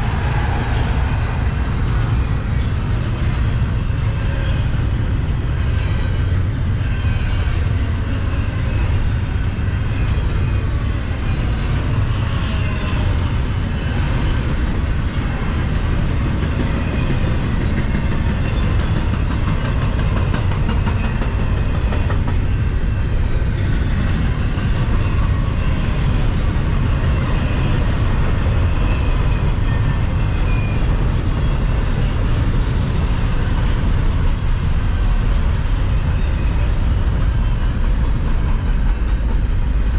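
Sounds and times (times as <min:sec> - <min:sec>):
faint high wheel squeals: 0:00.0 - 0:15.9, 0:16.6 - 0:35.2
freight train wheels rumbling: 0:00.0 - 0:39.9.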